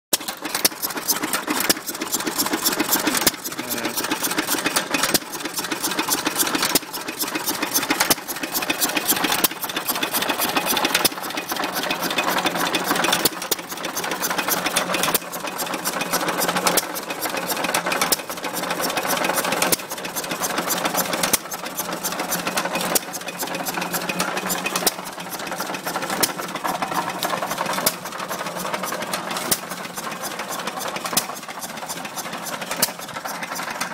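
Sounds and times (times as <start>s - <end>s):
mechanical clatter: 0.1s - 33.9s.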